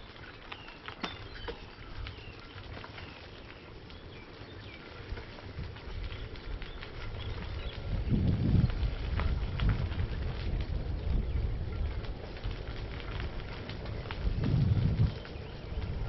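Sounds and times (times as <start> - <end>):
birds chirping: 0.0 - 9.4, 10.6 - 16.0
bicycle tyres rolling on gravel: 0.0 - 16.0.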